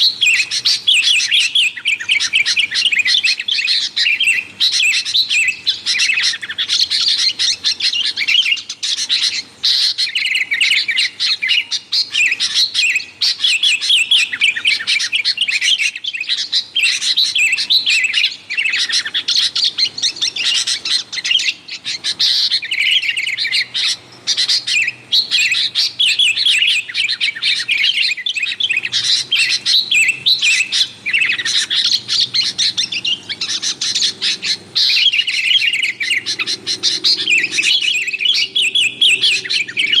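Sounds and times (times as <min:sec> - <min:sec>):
birds chattering: 0:00.0 - 0:40.0.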